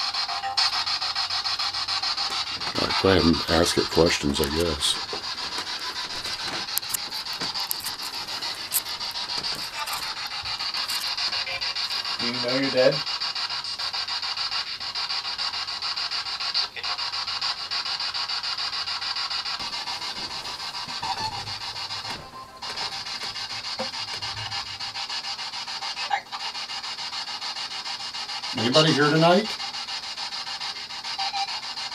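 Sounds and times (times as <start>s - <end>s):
pulsing radio static: 0.0s - 26.5s, 28.4s - 29.7s.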